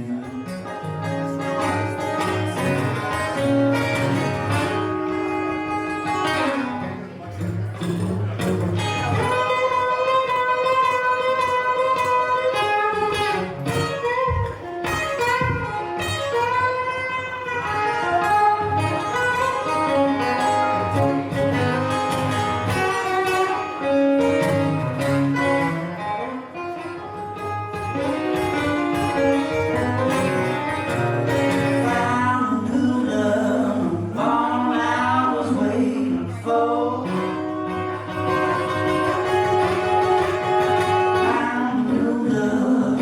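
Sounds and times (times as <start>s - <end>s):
lead guitar bending notes: 0.0s - 43.0s.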